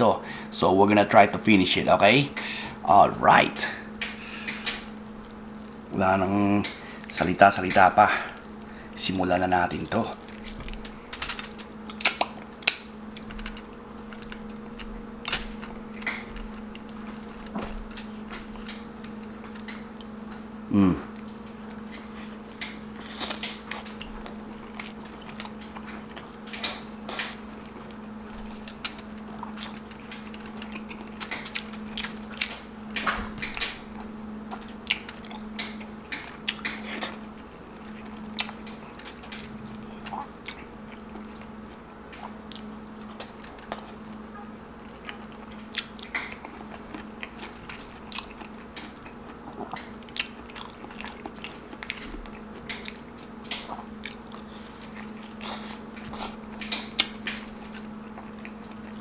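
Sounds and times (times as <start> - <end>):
person chewing: 4.0 - 6.0, 7.8 - 9.0, 9.6 - 59.0.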